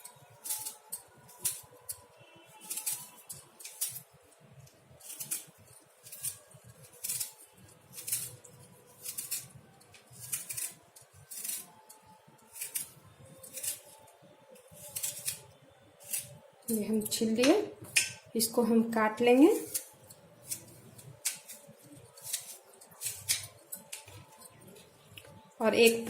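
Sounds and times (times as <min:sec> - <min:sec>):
peeler scraping apple skin: 0:00.0 - 0:18.1, 0:19.3 - 0:25.1.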